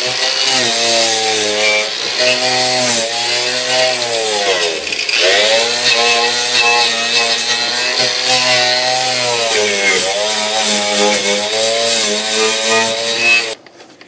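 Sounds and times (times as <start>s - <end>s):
power tool wire wheel grinding: 0.0s - 13.6s.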